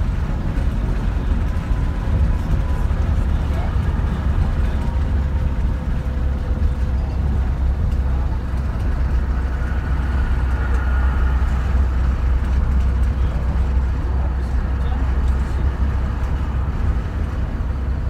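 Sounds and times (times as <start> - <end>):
road and engine rumble: 0.0 - 18.0.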